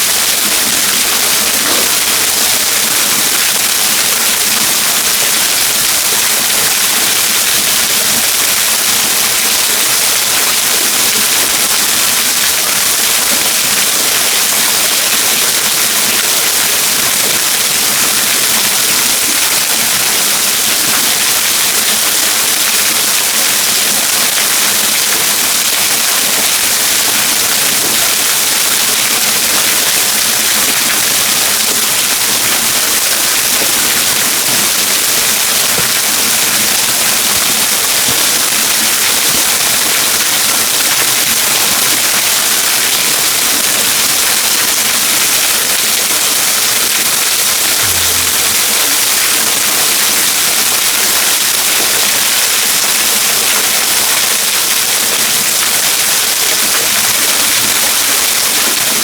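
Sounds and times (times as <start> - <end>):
waterfall rushing: 0.0 - 55.8.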